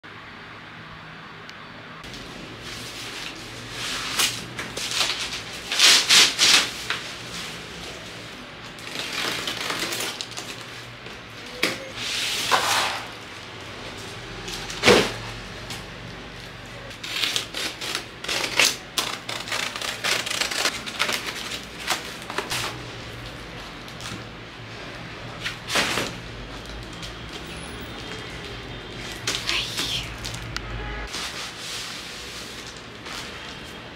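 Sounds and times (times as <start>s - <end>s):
bubble wrap and plastic crinkling: 2.1s - 11.2s, 13.3s - 24.4s, 25.3s - 33.9s.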